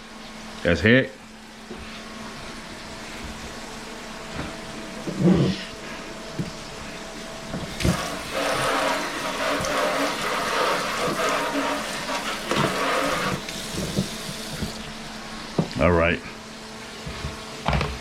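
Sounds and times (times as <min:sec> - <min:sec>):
water running from tap: 0:00.2 - 0:17.3.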